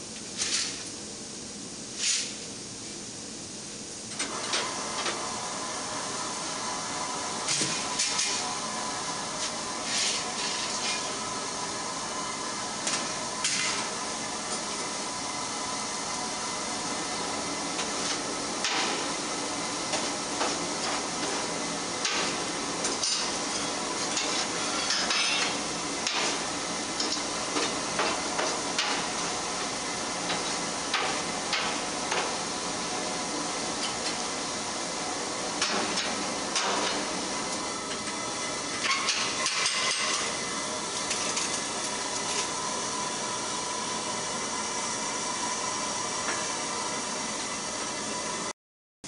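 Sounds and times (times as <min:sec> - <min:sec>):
forge fire hissing: 0:00.3 - 0:48.4.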